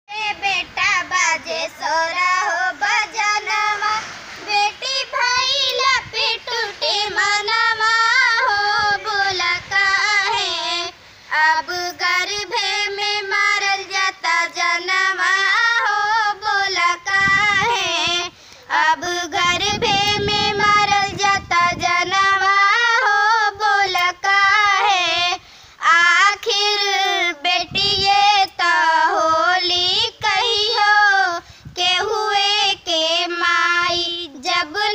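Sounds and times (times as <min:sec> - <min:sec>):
girl singing unaccompanied: 0:00.1 - 0:34.9.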